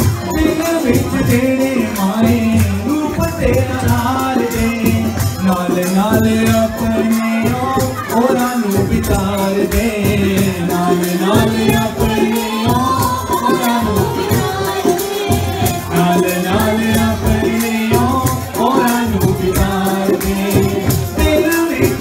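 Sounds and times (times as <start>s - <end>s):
hand drum: 0.0s - 22.0s
keyboard: 0.0s - 22.0s
woman and man singing: 0.0s - 22.0s.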